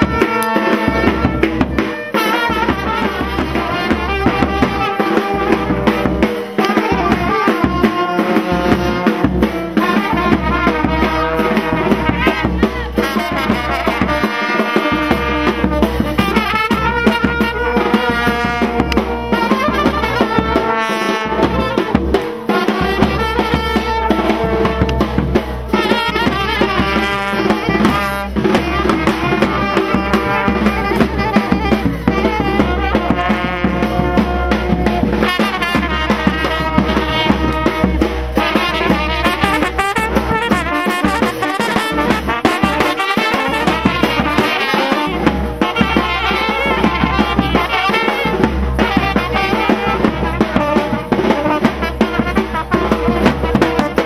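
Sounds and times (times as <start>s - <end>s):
steady drumming: 0.0s - 54.0s
trumpets playing melody: 0.0s - 54.0s.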